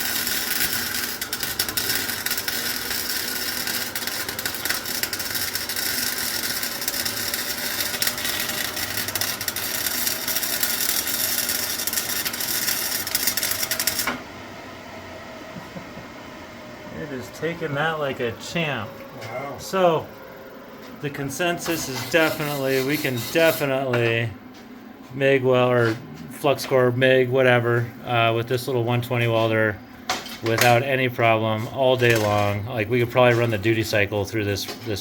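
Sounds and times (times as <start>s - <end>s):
welder arc crackling: 0.0s - 14.3s, 16.8s - 20.2s, 20.9s - 24.3s, 25.0s - 35.0s.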